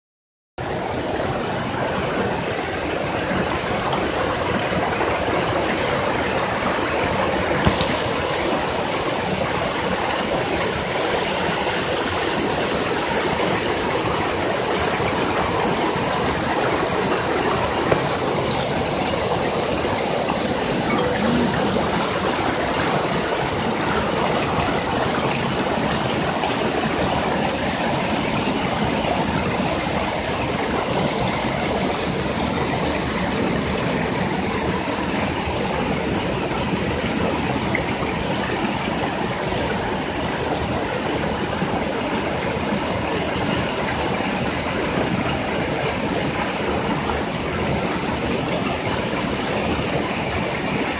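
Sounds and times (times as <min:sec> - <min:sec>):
stream cascading over rocks: 0:00.6 - 0:50.9
waterfall pouring into pool: 0:00.6 - 0:50.9.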